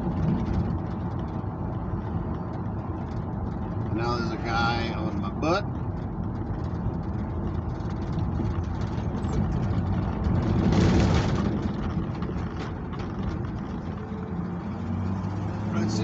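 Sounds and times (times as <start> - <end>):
pickup engine and road noise: 0.0 - 16.0
rattles from rough road: 0.0 - 16.0.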